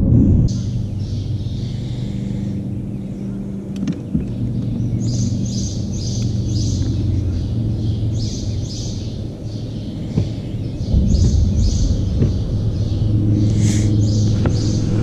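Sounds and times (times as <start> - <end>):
low hum: 0.0 - 15.0
small birds chirping: 0.5 - 15.0.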